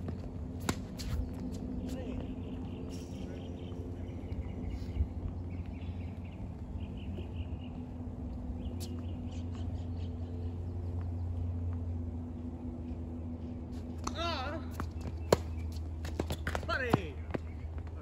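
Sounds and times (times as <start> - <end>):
steady low hum: 0.0 - 18.0
small birds chirping: 1.0 - 18.0.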